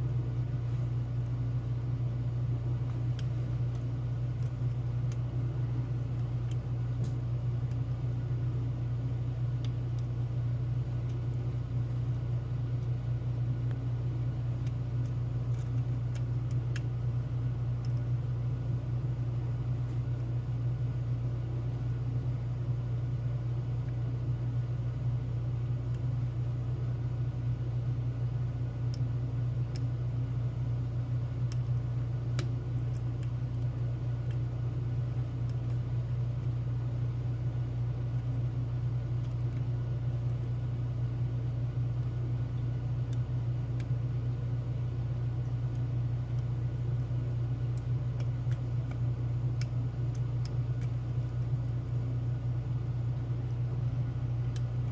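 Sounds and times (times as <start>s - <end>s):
low hum: 0.0s - 54.9s.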